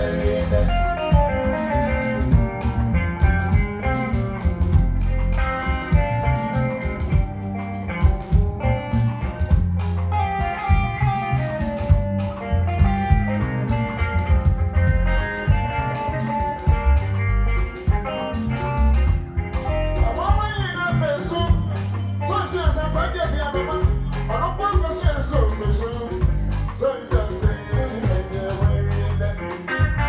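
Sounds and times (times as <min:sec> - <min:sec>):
electric guitar lead: 0:00.0 - 0:30.0
live band playing: 0:00.0 - 0:30.0.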